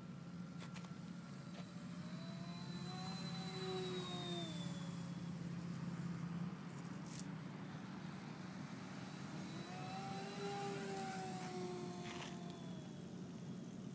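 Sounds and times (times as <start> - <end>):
model plane motor whine: 0.0 - 13.9
steady low hum: 0.0 - 13.9.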